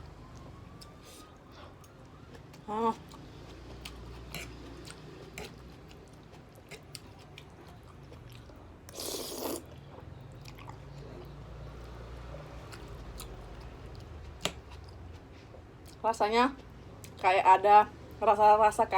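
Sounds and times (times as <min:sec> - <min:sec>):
person chewing noodles: 0:00.6 - 0:16.0.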